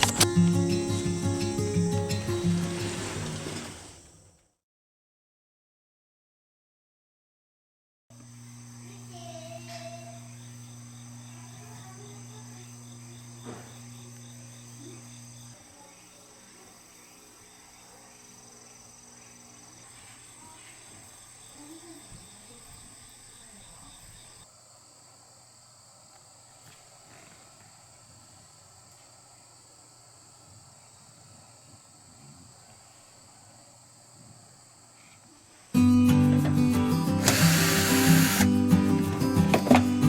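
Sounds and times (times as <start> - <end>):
insects chirping: 0.0 - 4.4, 8.2 - 40.0.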